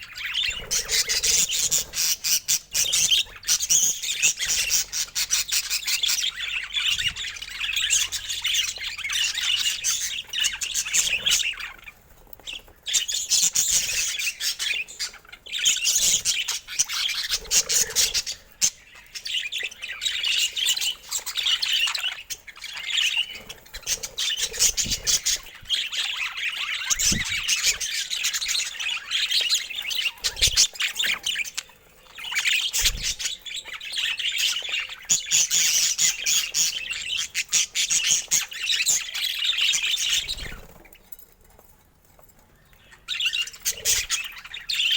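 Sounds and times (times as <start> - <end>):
budgerigars chattering: 0.0 - 40.7, 42.9 - 44.9.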